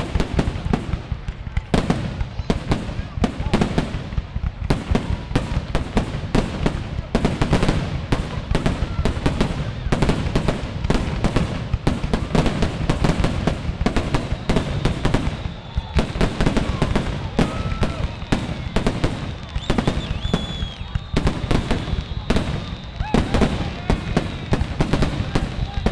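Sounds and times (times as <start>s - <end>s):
fireworks bursting: 0.0s - 25.9s.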